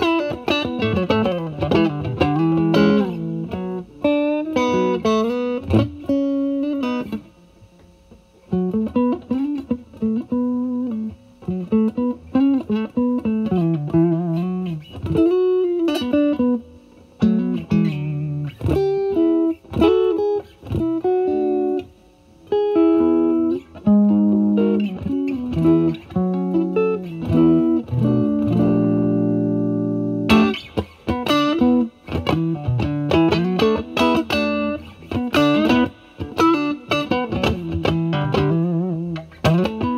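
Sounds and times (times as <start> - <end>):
overdriven electric guitar lead: 0.0 - 39.9.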